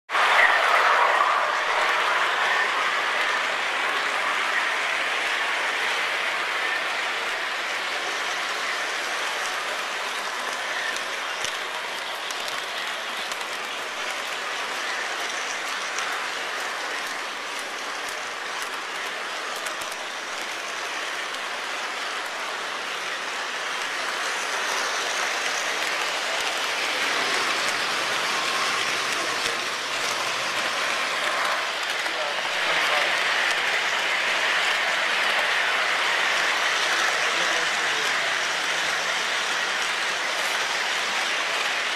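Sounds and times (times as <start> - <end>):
model trains rolling on track: 0.1 - 41.9.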